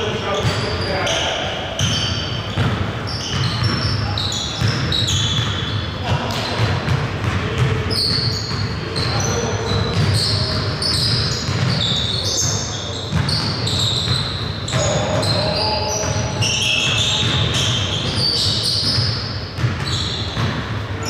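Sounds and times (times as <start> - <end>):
shoe squeaks: 0.0 - 6.7, 7.9 - 20.6
players' voices: 0.0 - 19.2
basketball bouncing on gym floor: 0.0 - 21.0.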